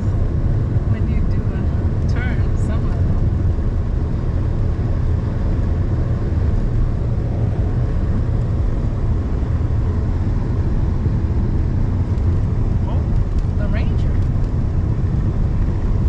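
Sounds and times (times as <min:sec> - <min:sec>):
loud low rumble: 0:00.0 - 0:16.0.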